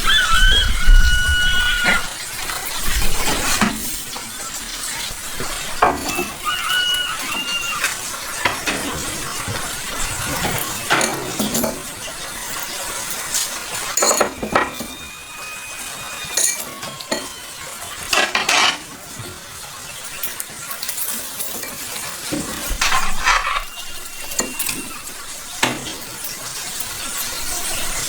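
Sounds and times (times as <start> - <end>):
food sizzling: 0.0 - 20.9, 21.6 - 28.0
metal utensils scraping cookware: 1.9 - 19.4, 20.0 - 28.0.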